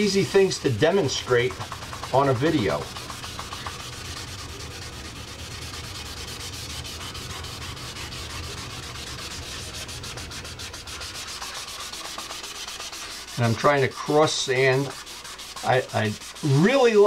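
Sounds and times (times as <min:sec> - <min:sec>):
sandpaper scratching: 0:00.0 - 0:17.0.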